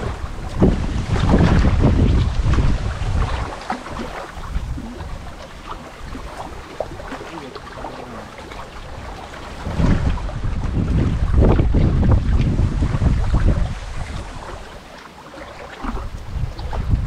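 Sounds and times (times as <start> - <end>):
wind buffeting microphone: 0.0 - 14.9, 15.5 - 17.0.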